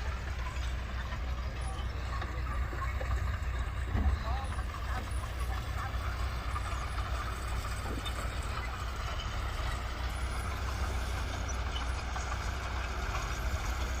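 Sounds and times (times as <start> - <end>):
diesel engine rumbling under load: 0.0 - 14.0.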